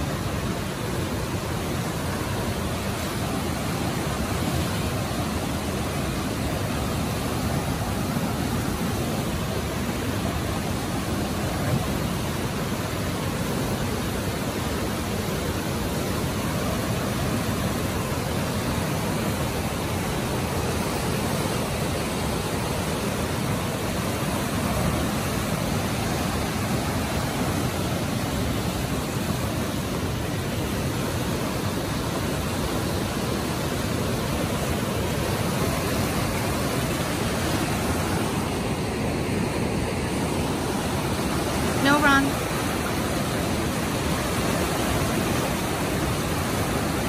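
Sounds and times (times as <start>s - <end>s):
whitewater rapids rushing: 0.0s - 47.0s.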